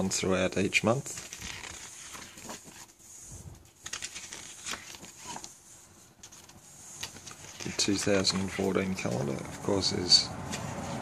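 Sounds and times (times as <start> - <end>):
paper pages rustling: 0.8 - 11.0.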